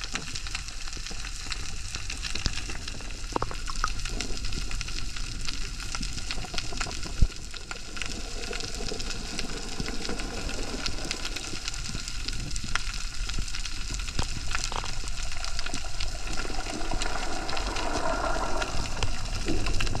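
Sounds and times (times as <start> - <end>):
low rumble of moving water: 0.0 - 20.0.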